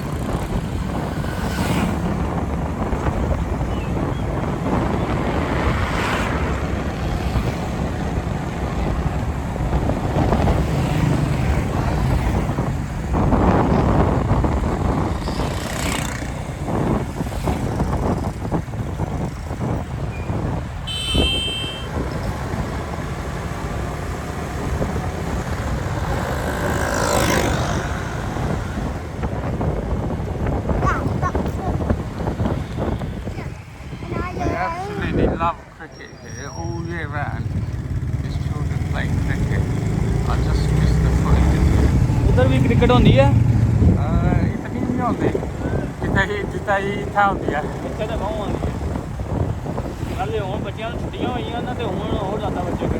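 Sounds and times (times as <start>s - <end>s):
street traffic rumble: 0.0s - 52.9s.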